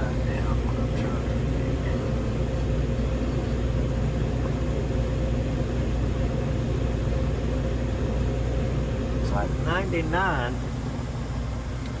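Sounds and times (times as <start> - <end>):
faint steady whine: 0.0 - 12.0
furnace fan motor hum: 0.0 - 12.0.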